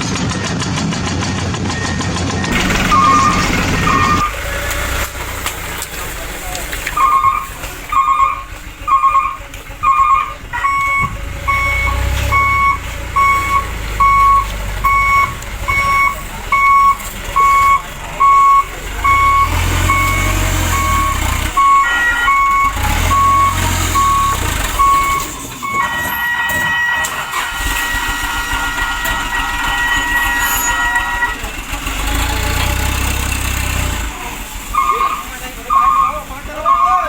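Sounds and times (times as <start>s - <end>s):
reversing beeper: 0.0s - 5.0s, 6.4s - 33.9s, 34.7s - 37.0s
model engine rumble: 0.0s - 37.0s.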